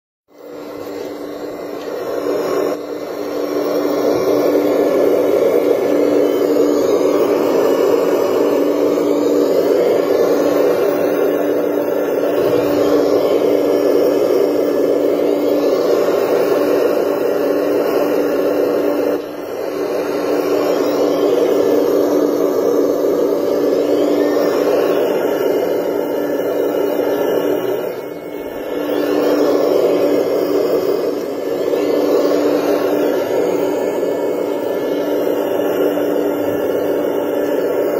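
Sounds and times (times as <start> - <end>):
model excavator motors whining: 0.4 - 37.9.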